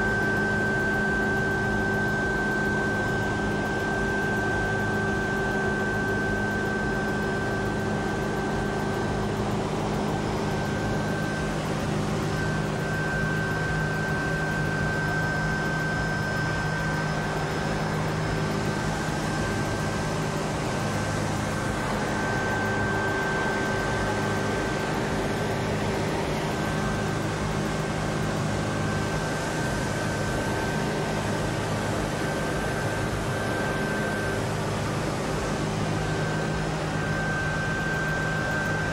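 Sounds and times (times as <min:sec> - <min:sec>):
mechanical drone with humming tones: 0:00.0 - 0:38.9
thin high whine: 0:00.0 - 0:38.9.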